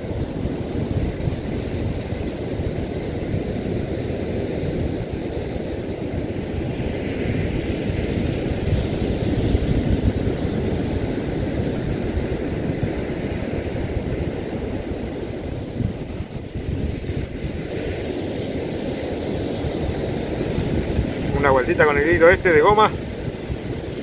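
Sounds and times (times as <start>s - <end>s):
surf washing on beach: 0.0s - 24.0s
wind buffeting microphone: 0.0s - 24.0s.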